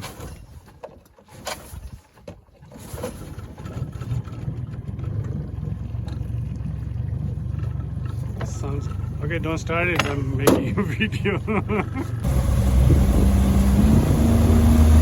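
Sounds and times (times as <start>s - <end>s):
outboard motor running: 2.9s - 15.0s.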